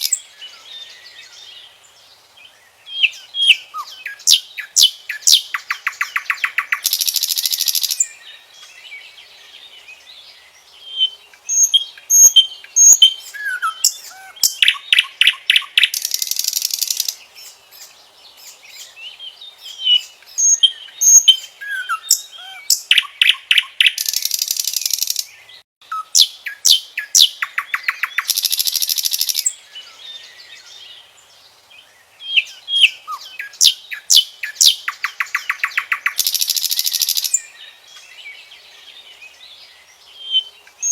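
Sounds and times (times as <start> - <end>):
nightingale singing: 0.0 - 40.9.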